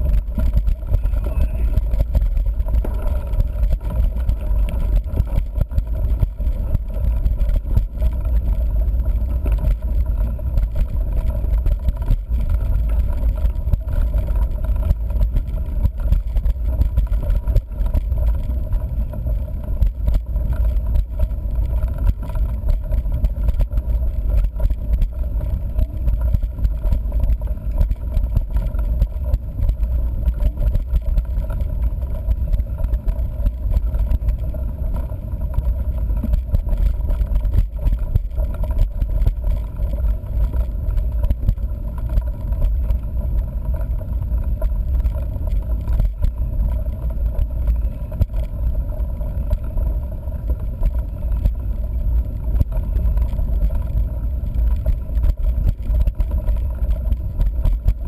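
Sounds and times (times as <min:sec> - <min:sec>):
bike rattling on bumpy dirt: 0:00.0 - 0:58.0
wind buffeting microphone: 0:00.0 - 0:58.0.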